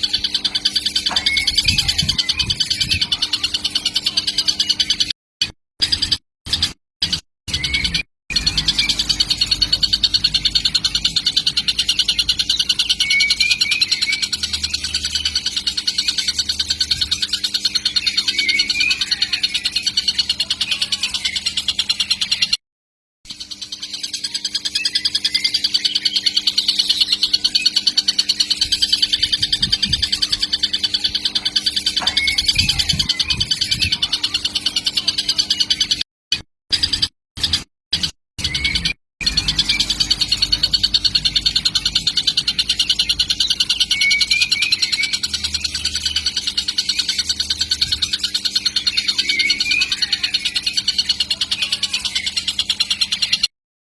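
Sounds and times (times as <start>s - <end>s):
kingfisher chattering call: 0.0s - 4.7s, 8.3s - 22.3s, 23.6s - 35.9s, 38.5s - 53.4s.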